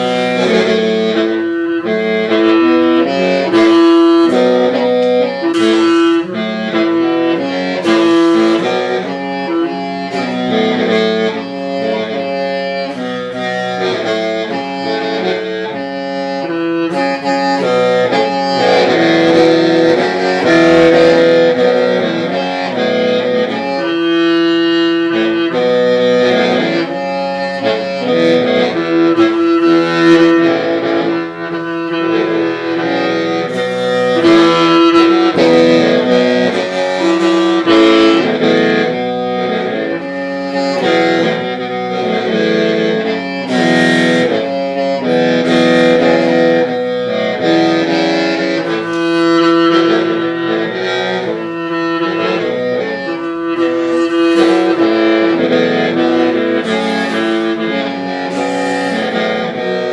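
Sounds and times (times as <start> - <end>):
free-reed mouth organ playing: 0.0 - 59.9.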